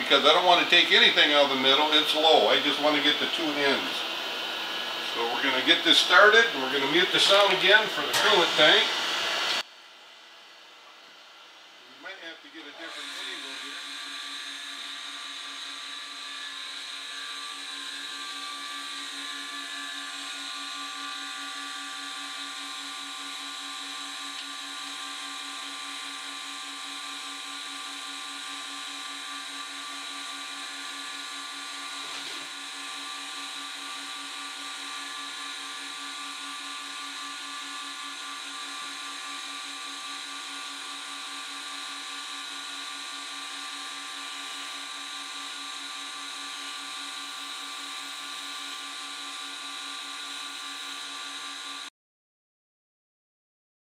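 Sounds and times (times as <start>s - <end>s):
grinder spindle whining: 0.0s - 9.6s, 12.5s - 51.9s.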